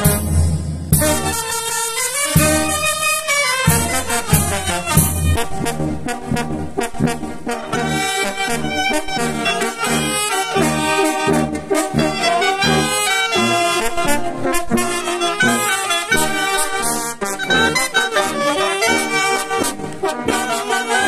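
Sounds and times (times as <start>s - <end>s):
brass band playing: 0.0s - 21.0s.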